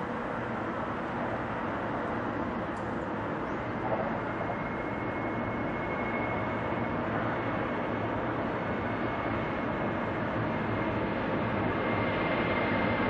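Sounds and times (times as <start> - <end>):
high jet whine: 0.0 - 13.0
jet engine rumble: 0.0 - 13.0.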